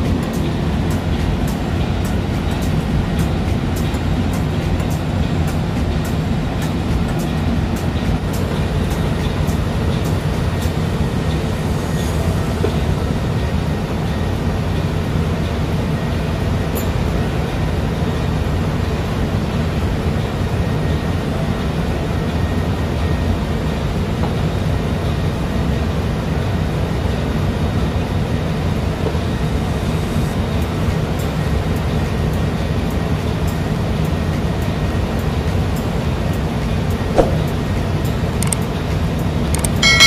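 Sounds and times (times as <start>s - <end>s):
engine room machinery drone: 0.0s - 40.0s.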